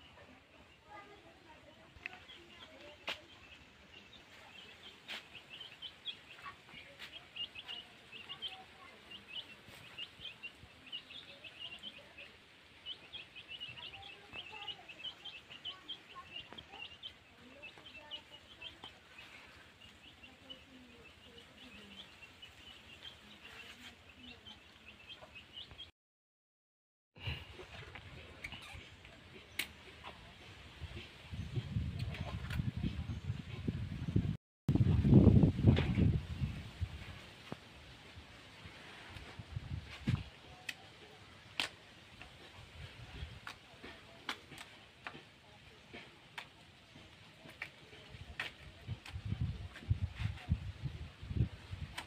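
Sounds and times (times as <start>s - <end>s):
birds chirping: 0.0s - 25.9s, 36.0s - 52.0s.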